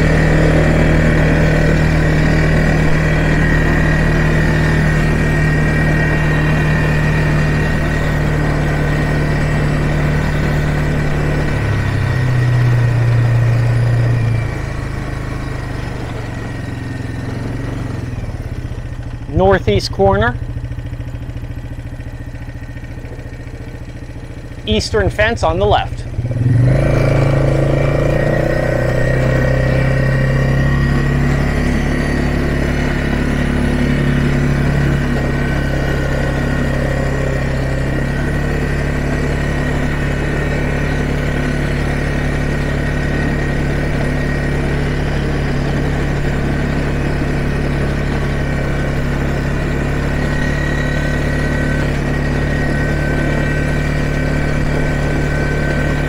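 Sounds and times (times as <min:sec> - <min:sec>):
quad engine running: 0:00.0 - 0:56.0.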